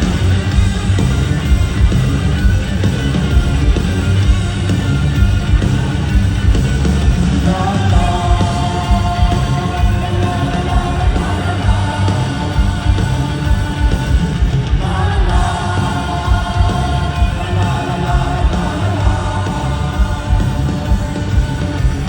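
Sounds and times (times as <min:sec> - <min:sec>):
heavy drums: 0:00.0 - 0:22.0
live rock band playing: 0:00.0 - 0:22.0.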